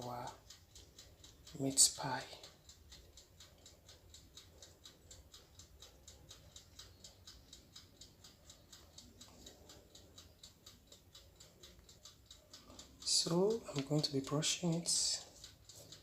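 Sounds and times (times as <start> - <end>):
faint regular ticking: 0.0 - 16.0.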